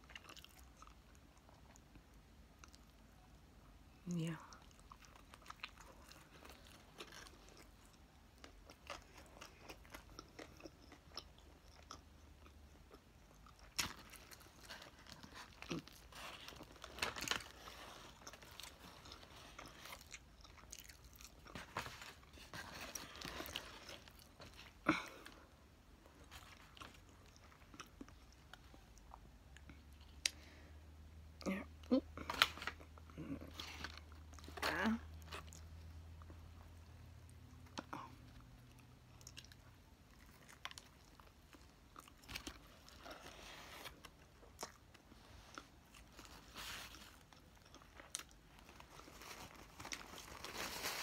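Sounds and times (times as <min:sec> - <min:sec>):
chewing and biting food: 0:00.0 - 0:03.0, 0:04.5 - 0:25.3, 0:26.1 - 0:30.4, 0:35.2 - 0:51.0.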